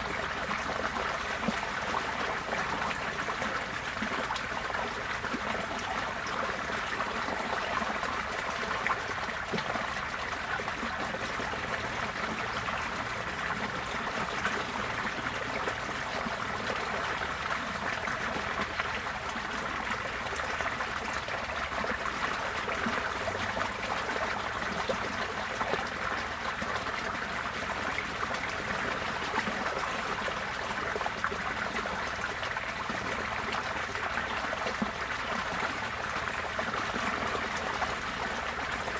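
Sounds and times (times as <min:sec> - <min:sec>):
floodwater flowing: 0:00.0 - 0:38.9.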